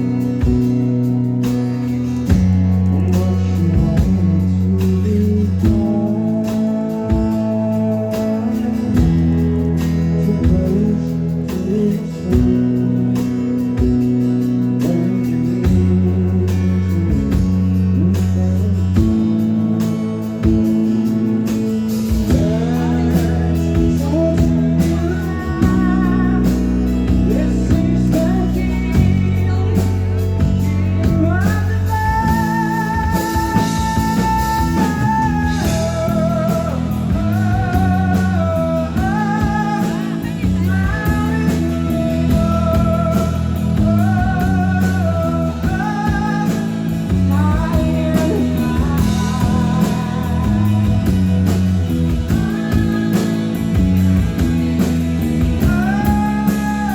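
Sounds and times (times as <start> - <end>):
rock band playing live: 0.0 - 56.9
person singing: 2.2 - 56.9.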